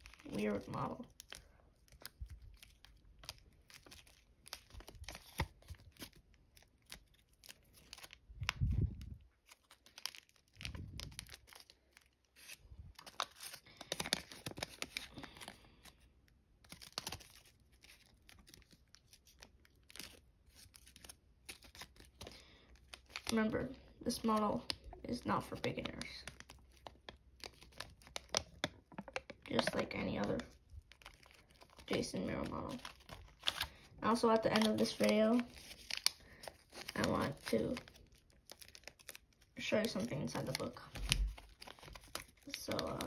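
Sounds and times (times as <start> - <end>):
foil paper crinkling: 0.0 - 43.0.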